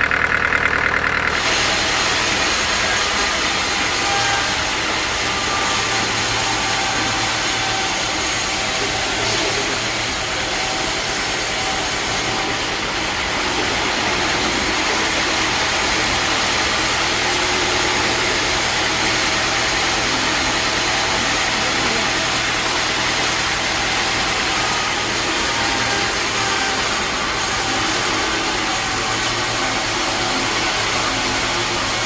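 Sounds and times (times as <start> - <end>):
band sawmill drone and hiss: 0.0 - 32.0.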